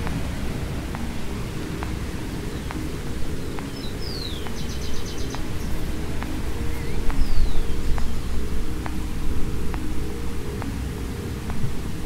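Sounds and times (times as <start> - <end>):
birds calling: 0.0 - 11.0
faint ticking: 0.0 - 12.0
low rushing background: 0.0 - 12.0.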